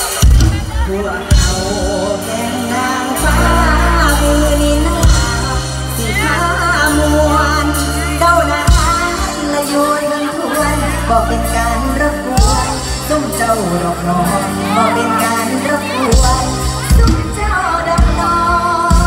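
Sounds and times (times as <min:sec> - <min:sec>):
woman singing: 0:00.0 - 0:19.0
held bass notes: 0:00.3 - 0:19.0.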